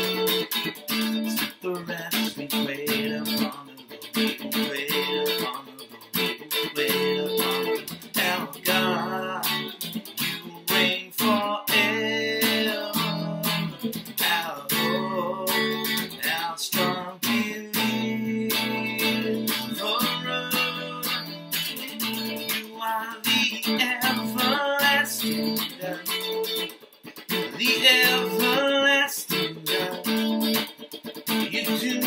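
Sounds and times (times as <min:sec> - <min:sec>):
man singing: 0:00.0 - 0:26.7, 0:27.3 - 0:32.0
electric guitar strummed chords: 0:00.0 - 0:32.0.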